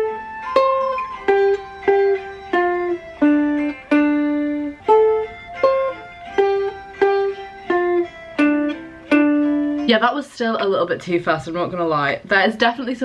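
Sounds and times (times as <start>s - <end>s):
ukulele single-note melody: 0.0s - 10.9s.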